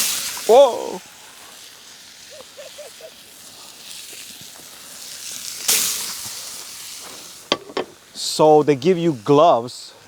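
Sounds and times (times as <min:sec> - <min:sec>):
campfire hissing and crackling: 0:00.0 - 0:10.0.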